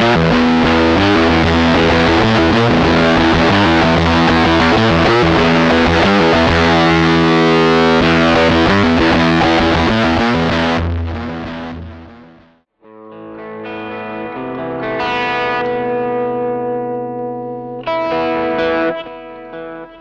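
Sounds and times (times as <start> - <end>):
distorted electric guitar: 0.0 - 20.0.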